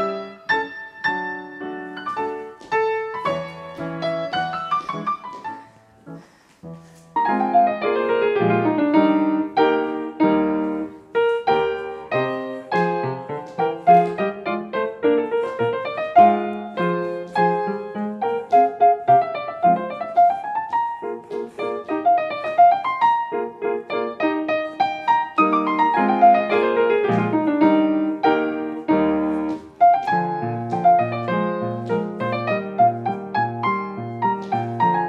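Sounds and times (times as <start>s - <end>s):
solo piano playing: 0.0s - 35.0s.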